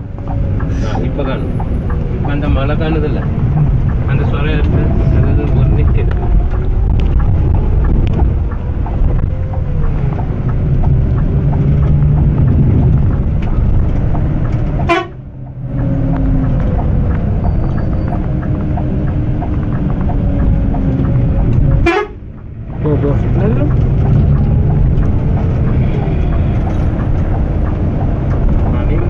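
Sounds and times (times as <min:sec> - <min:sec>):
diesel coach engine running: 0:00.0 - 0:29.0
tyres on wet road: 0:00.0 - 0:29.0.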